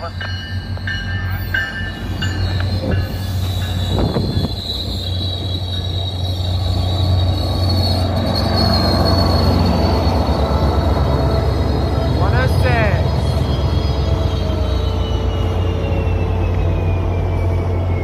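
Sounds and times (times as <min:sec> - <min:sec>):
diesel locomotive drone: 0:00.0 - 0:18.0
high metallic squeal: 0:00.6 - 0:18.0.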